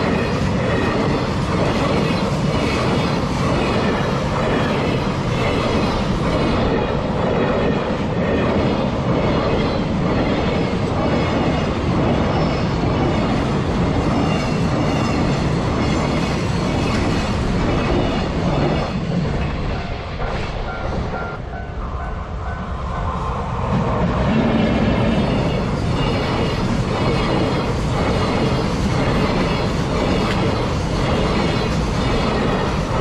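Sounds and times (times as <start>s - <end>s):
train wheels clattering over rails: 0.0s - 21.4s, 23.6s - 33.0s.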